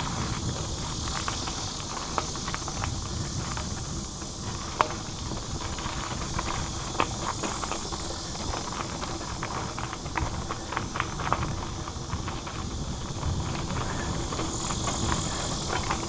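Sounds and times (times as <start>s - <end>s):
bike knocking and rattling: 0.0s - 16.0s
bike tyres on dirt: 0.0s - 16.0s
wind rumble on microphone: 0.0s - 16.0s.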